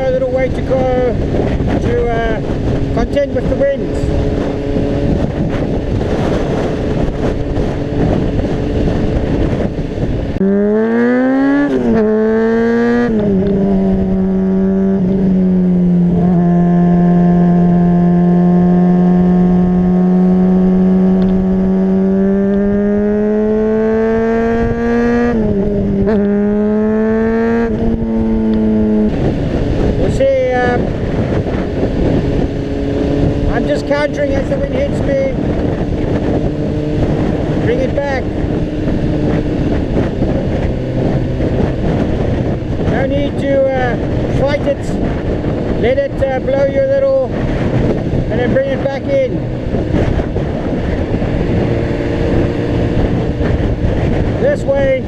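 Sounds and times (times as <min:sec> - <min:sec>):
motorcycle engine revving: 0:00.0 - 0:55.0
wind rush on microphone: 0:00.0 - 0:55.0.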